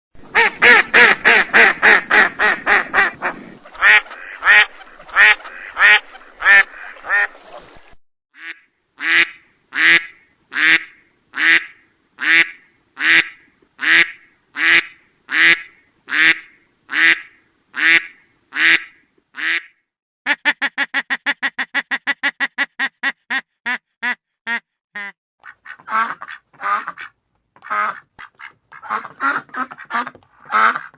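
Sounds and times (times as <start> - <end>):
ducks quacking: 0.3 - 7.4, 8.4 - 19.7, 20.3 - 30.9.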